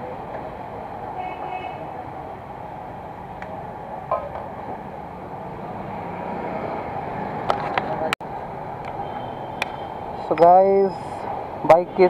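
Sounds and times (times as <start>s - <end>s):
motorcycle engines passing: 0.0s - 12.0s
street traffic noise: 0.0s - 12.0s.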